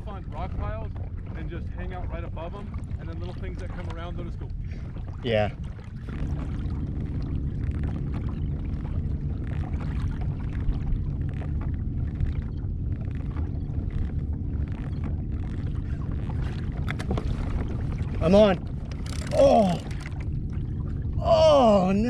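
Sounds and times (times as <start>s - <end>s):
low rumble: 0.0s - 22.0s
water splashing against hull: 0.0s - 22.0s.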